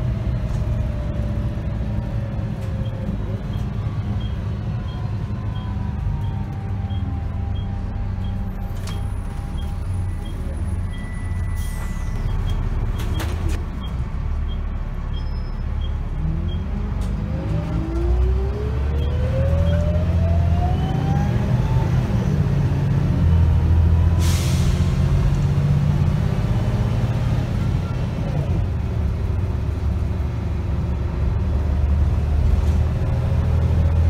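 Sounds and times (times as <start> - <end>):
bus diesel engine rumble: 0.0 - 34.0.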